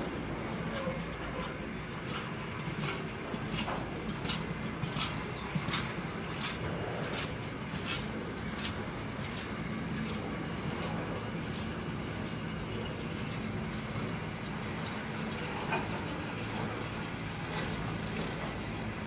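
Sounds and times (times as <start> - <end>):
freight train rumble: 0.0 - 19.0
train wheel clicks: 0.0 - 19.0.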